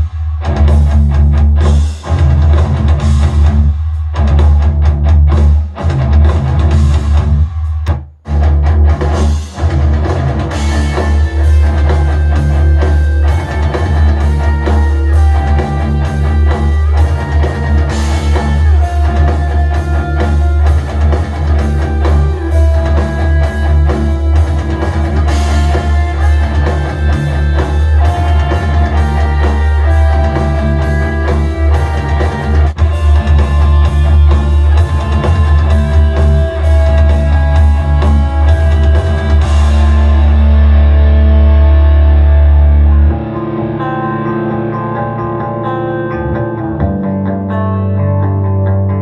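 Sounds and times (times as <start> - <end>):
rock music through speaker: 0.0 - 49.0.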